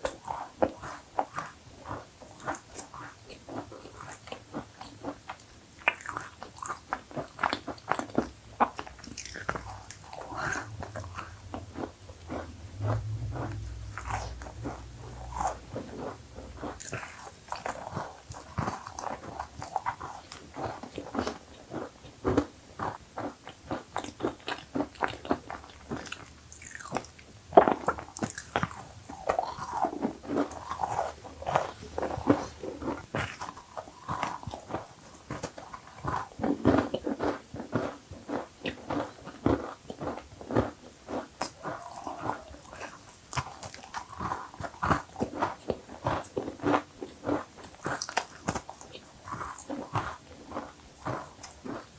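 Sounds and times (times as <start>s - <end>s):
person crunching cookies: 5.8s - 51.9s.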